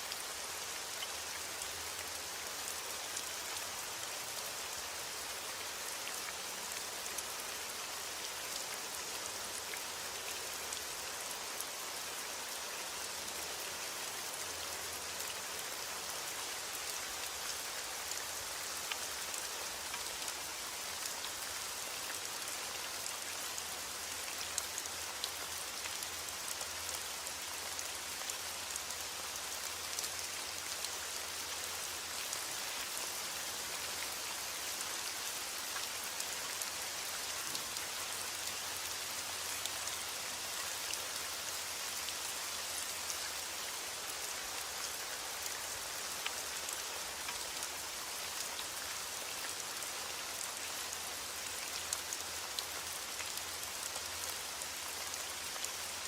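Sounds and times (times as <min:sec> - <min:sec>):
rain pattering: 0:00.1 - 0:56.0.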